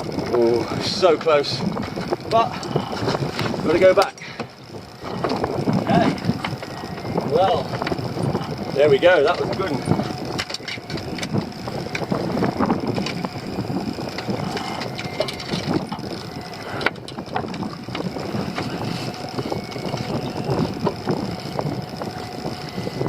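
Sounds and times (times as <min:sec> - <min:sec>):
boat engine running: 0:00.0 - 0:23.0
gear knocking and clattering: 0:00.0 - 0:23.0
wind buffeting microphone: 0:00.0 - 0:23.0.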